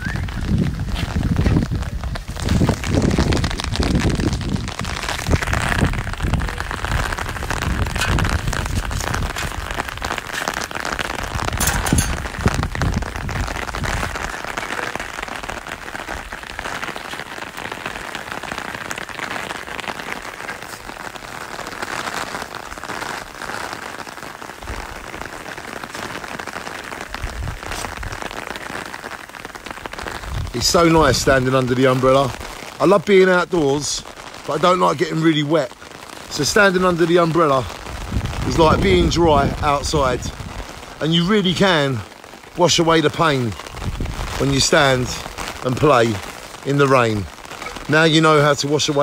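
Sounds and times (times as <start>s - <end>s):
rain on umbrella: 0.0s - 49.0s.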